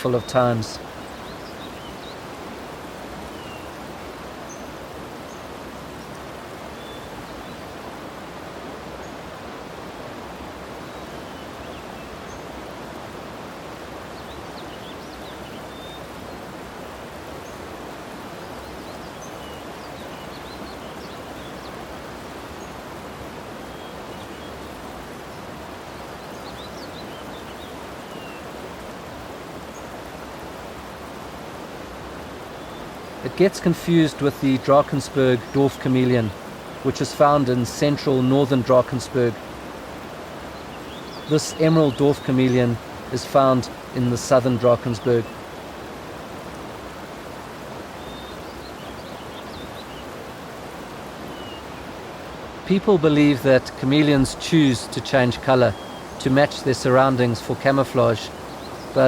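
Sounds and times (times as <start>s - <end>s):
outdoor ambient hiss: 0.0s - 59.0s.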